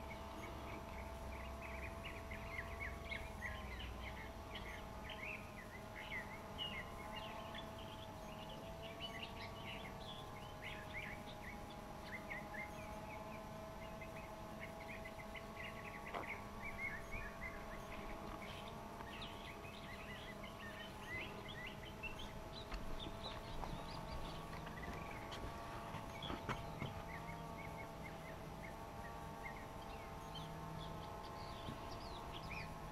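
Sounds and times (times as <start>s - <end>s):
small birds chirping: 0.0s - 32.9s
steady hum of held pitches: 0.0s - 32.9s.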